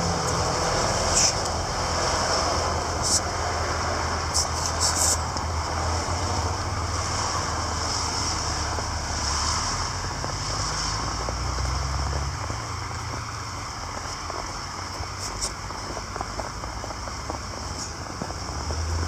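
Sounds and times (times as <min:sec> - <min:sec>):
steady low rumble: 0:00.0 - 0:19.0
wind: 0:00.0 - 0:19.0.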